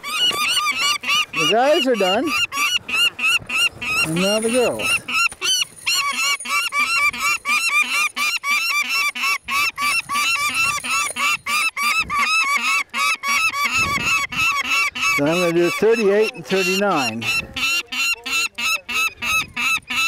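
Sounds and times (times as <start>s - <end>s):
falcons calling: 0.0s - 20.0s.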